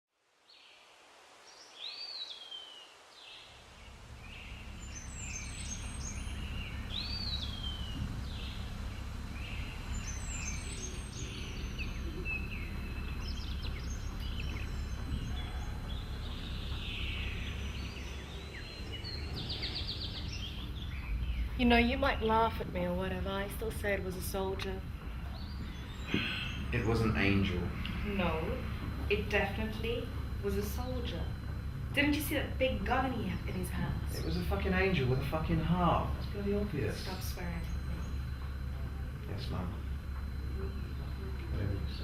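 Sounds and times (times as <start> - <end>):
wild birds singing: 0.4 - 42.0
low steady rumble: 3.7 - 42.0.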